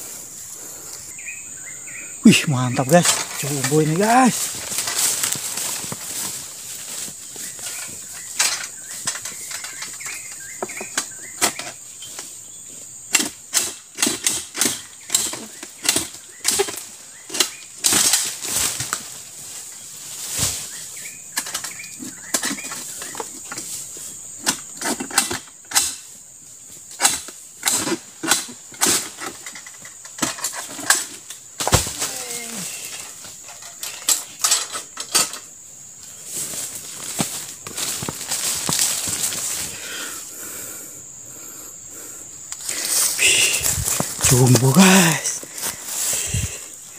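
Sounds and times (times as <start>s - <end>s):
steady high hiss: 0.0s - 13.9s, 14.7s - 46.9s
palm fronds cracking and rustling: 0.6s - 40.3s, 42.4s - 46.9s.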